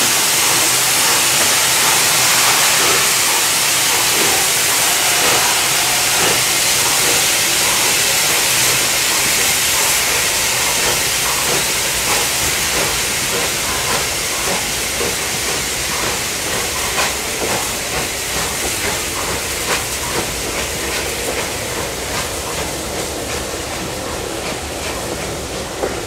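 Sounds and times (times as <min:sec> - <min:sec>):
steam hissing from locomotive: 0:00.0 - 0:26.0
train wheels clicking on track: 0:00.0 - 0:26.0.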